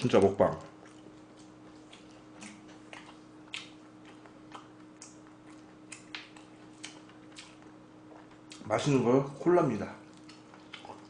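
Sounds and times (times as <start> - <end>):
faint steady hum: 0.0 - 11.0
close-up chewing mouth clicks: 0.7 - 8.7, 10.0 - 11.0.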